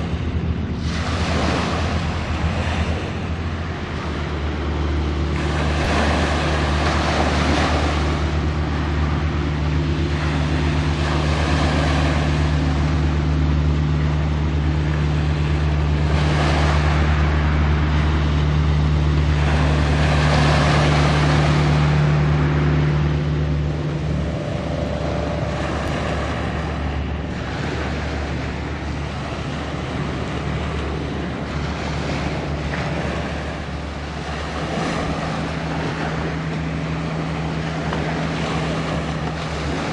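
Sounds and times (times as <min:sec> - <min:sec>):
ship engines droning: 0:00.0 - 0:39.9
waves washing: 0:00.0 - 0:39.9
wind gusts on microphone: 0:00.0 - 0:39.9.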